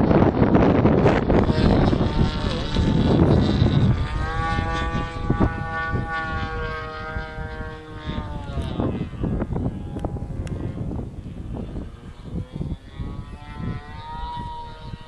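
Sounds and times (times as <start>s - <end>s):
model plane engine buzzing: 0.0s - 15.0s
wind buffeting microphone: 0.0s - 15.0s.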